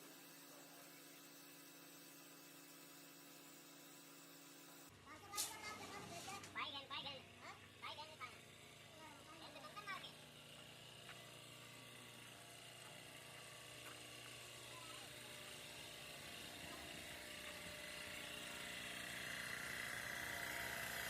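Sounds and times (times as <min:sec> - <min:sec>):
mechanical hum and whir: 0:00.0 - 0:21.0.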